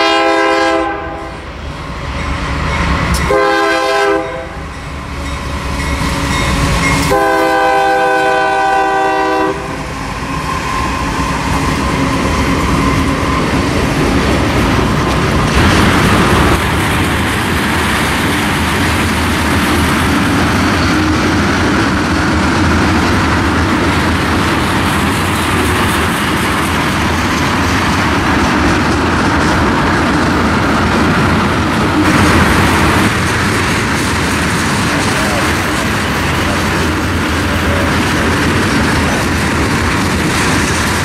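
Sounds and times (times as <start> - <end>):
train wheels rolling on rails: 0.0 - 41.0.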